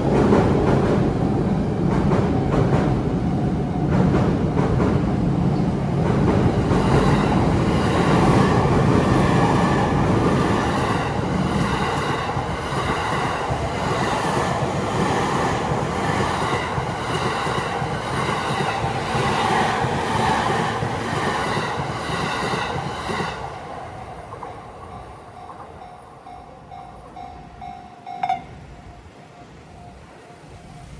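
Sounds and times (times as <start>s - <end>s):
train wheels rumbling on rails: 0.0s - 28.7s.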